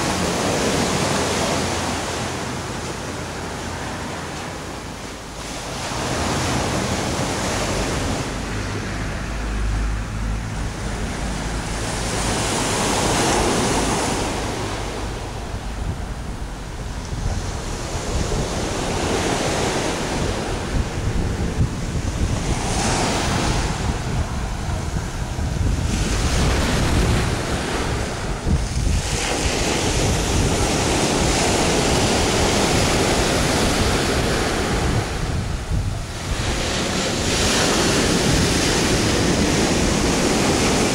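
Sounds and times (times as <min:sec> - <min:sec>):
surf breaking on a beach: 0:00.0 - 0:40.9
wind buffeting microphone: 0:00.0 - 0:40.9.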